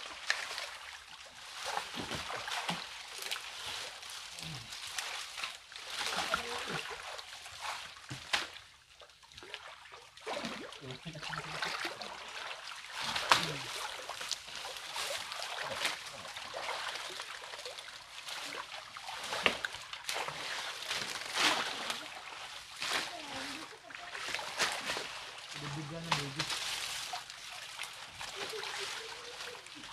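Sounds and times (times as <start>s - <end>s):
water sloshing and splashing: 0.0s - 29.9s
dry palm fronds crackling: 1.4s - 8.6s, 12.9s - 29.9s.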